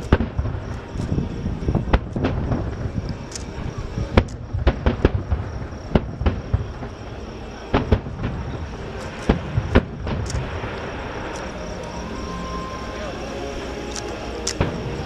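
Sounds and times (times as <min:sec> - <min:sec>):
fireworks bangs: 0:00.0 - 0:11.9, 0:14.3 - 0:15.0
steady low rumble: 0:00.0 - 0:15.0.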